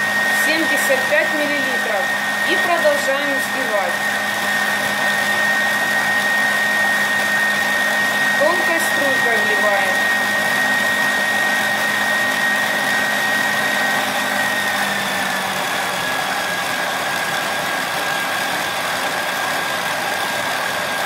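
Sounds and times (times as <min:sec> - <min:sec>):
stand mixer motor whining: 0:00.0 - 0:21.0.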